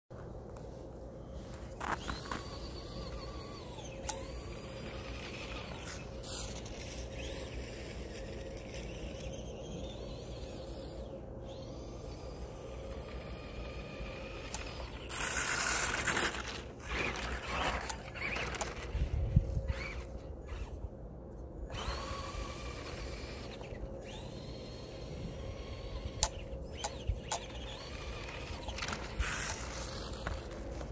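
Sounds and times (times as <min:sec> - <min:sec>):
toy truck motor whining: 0:01.7 - 0:20.9, 0:21.6 - 0:30.9.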